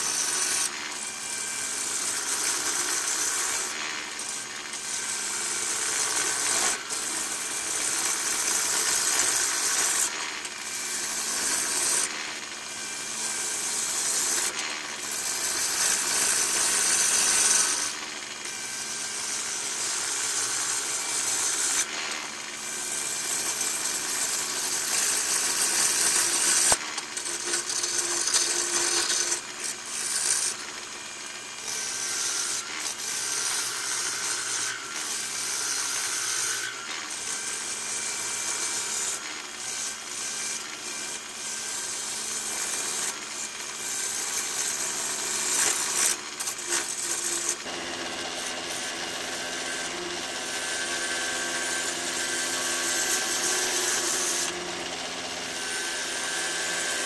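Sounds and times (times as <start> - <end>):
wood lathe gouge cutting bowl: 0.0 - 57.0.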